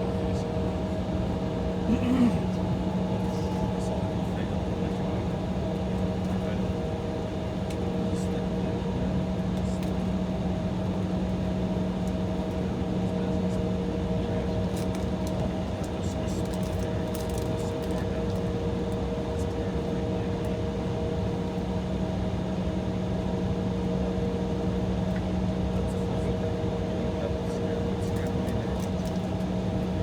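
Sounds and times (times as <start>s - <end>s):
jet cabin drone: 0.0s - 30.0s.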